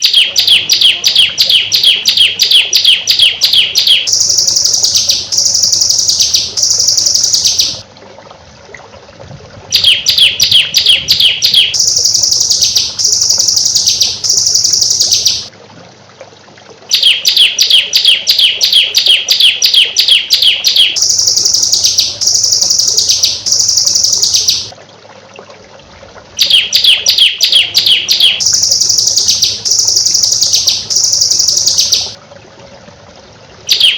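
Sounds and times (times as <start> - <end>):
high downward-sweeping bird phrases: 0.0 - 7.8, 9.7 - 15.5, 16.9 - 24.7, 26.4 - 32.2, 33.7 - 33.9
rapid sharp bird chirps: 0.0 - 7.8, 9.7 - 15.5, 16.9 - 24.7, 26.4 - 32.2, 33.7 - 33.9.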